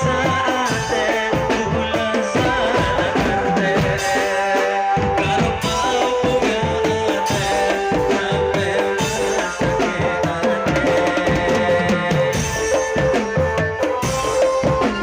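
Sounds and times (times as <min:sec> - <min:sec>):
drum band playing: 0:00.0 - 0:15.0
held melody line: 0:00.0 - 0:15.0.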